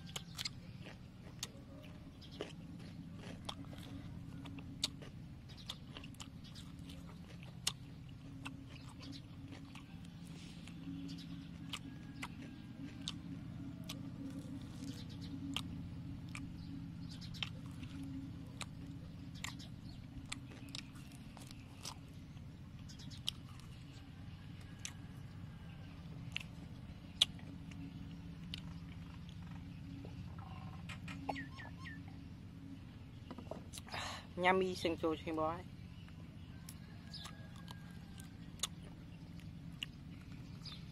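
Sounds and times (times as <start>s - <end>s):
chewing with sharp crunches: 0.0s - 40.9s
steady low hum: 0.0s - 40.9s.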